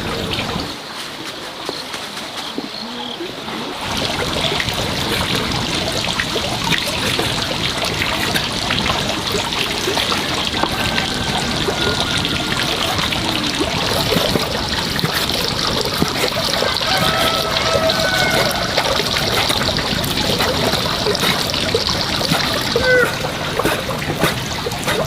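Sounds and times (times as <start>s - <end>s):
water running and trickling: 0.0s - 25.0s
small splashes and drips: 3.5s - 25.0s.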